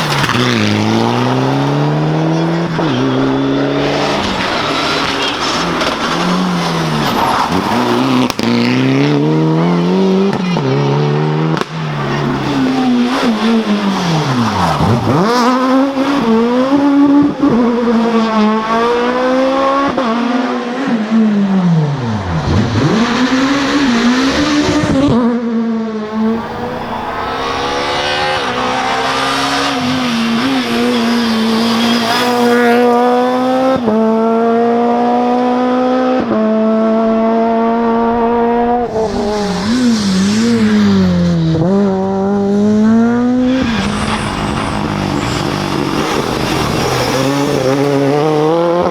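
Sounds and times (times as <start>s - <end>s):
car engine revving through gears: 0.0s - 48.9s.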